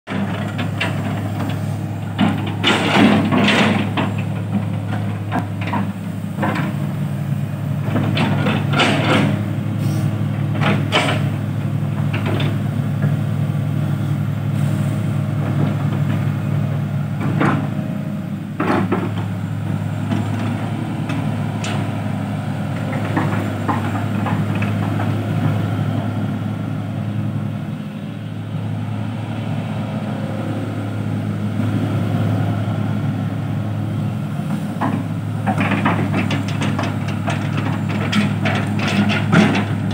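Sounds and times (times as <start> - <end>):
excavator diesel engine droning: 0.1 - 39.9.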